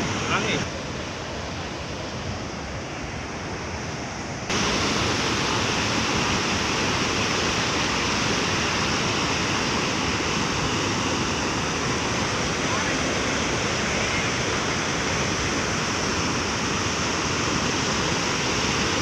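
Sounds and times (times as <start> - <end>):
waterfall rushing water: 0.0 - 19.0.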